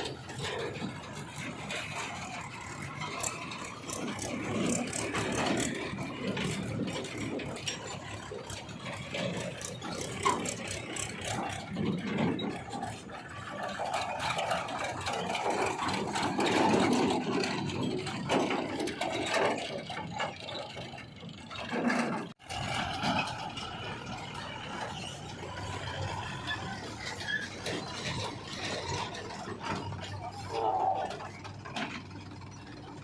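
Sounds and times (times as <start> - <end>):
backhoe diesel engine running: 0.0 - 33.0
rattling and scraping digging: 0.0 - 33.0.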